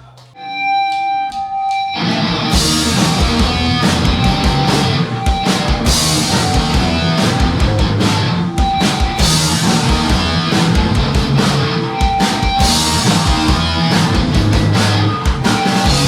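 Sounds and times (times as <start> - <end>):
rock band playing live: 1.9 - 16.0.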